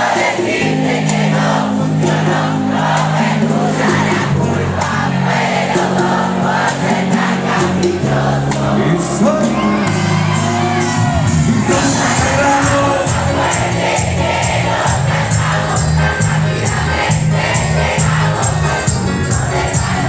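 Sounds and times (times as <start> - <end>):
crowd singing along: 0.0 - 20.0
live band music loud: 0.0 - 20.0.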